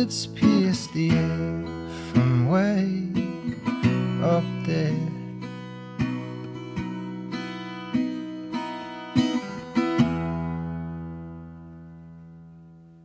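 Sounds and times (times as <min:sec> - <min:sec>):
solo acoustic guitar: 0:00.0 - 0:13.0.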